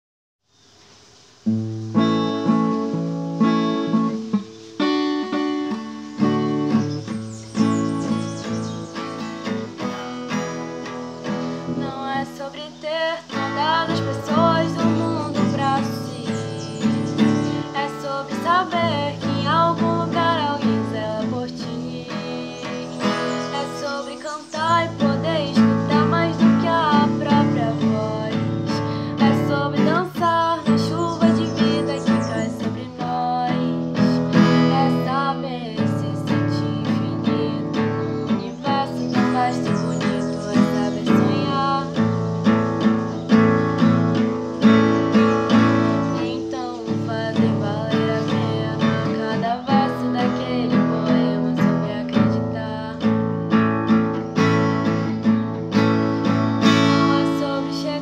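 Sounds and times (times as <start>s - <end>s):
acoustic guitar chords: 0.7s - 58.0s
woman singing: 5.2s - 58.0s.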